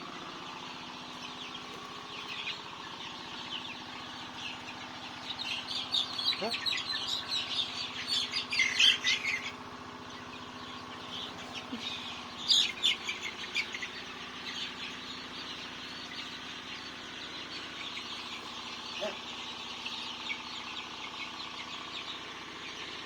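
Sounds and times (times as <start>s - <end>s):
chickens peeping: 0.0s - 23.0s.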